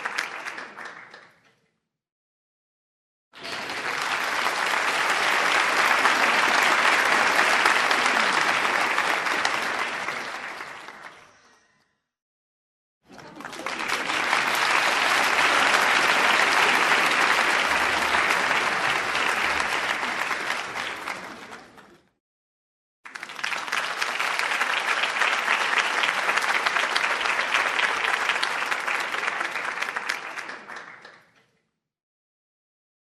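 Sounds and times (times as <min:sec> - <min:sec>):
audience applause: 0:00.0 - 0:01.3, 0:03.4 - 0:11.3, 0:13.1 - 0:22.0, 0:23.1 - 0:31.4.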